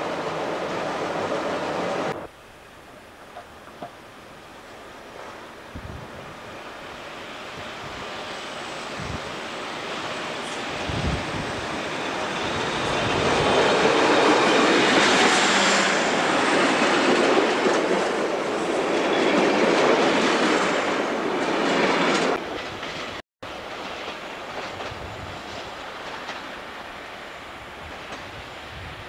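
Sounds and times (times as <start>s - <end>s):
diesel railcar passing: 0.0s - 29.0s
distant train rumble: 0.0s - 29.0s.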